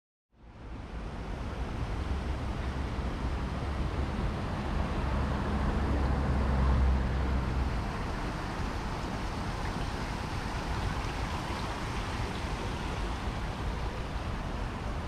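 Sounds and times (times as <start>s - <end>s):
hum of passing vehicles: 0.4s - 15.0s
vehicle engine and tyre rumble: 0.4s - 15.0s.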